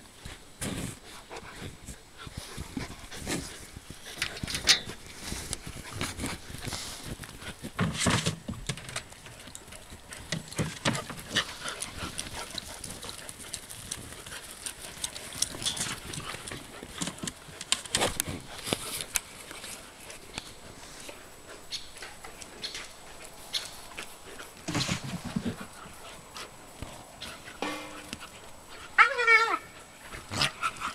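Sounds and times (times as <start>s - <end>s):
puppies playing: 1.0s - 30.9s.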